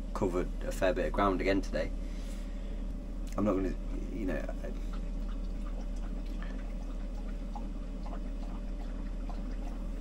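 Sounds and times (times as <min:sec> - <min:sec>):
low hum and hiss: 0:00.0 - 0:10.0.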